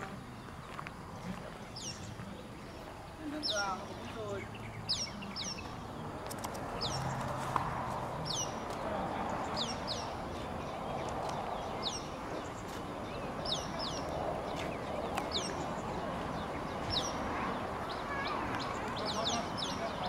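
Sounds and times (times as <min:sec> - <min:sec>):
murmur of background chatter: 0:00.0 - 0:20.0.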